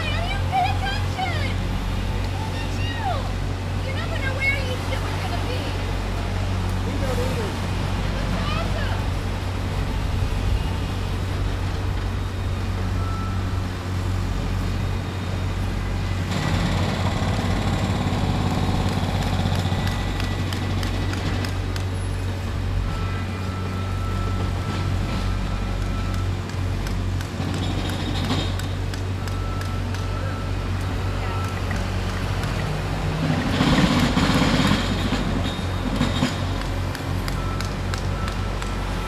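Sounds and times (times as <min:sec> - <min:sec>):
engine droning: 0:00.0 - 0:39.0.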